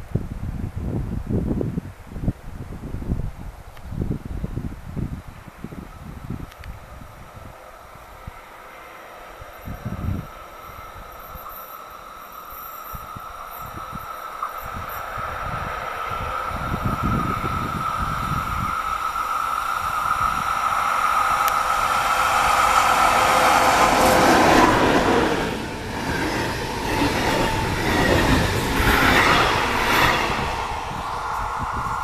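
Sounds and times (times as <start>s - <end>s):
train engine whine: 4.4s - 32.0s
train wheels on rails: 5.4s - 32.0s.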